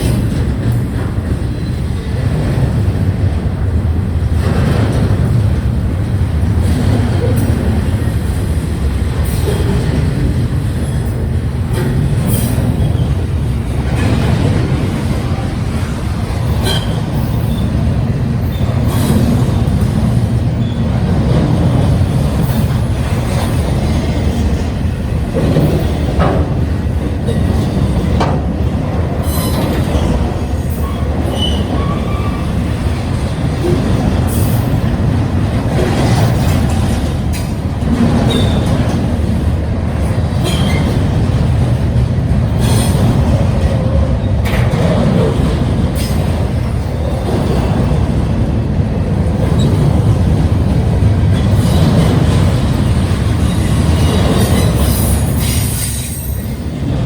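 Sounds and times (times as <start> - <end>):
rail clicks: 0.0 - 57.0
train wheels rumbling on rails: 0.0 - 57.0.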